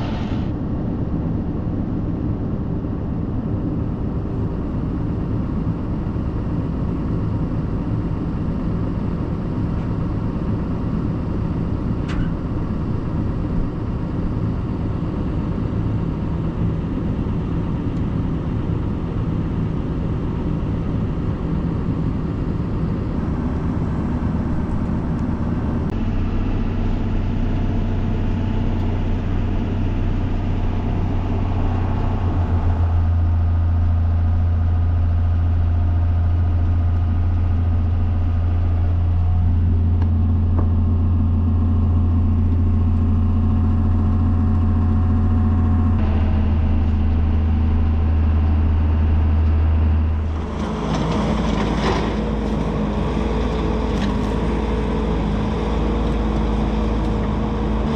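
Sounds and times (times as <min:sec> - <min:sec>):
tractor engine droning: 0:00.0 - 0:57.9.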